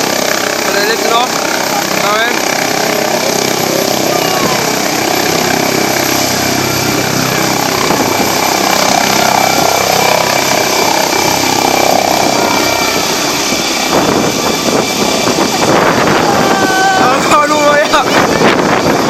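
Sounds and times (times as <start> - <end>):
helicopter engine and rotors: 0.0 - 19.0.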